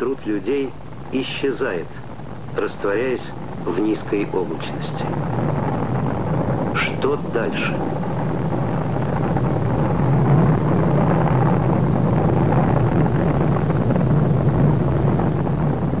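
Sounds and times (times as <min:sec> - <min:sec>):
rocket engines roaring: 0:00.0 - 0:16.0.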